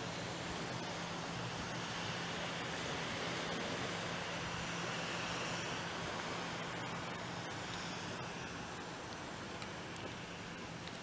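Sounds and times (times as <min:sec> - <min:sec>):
distant jet engine roar: 0:00.0 - 0:11.0.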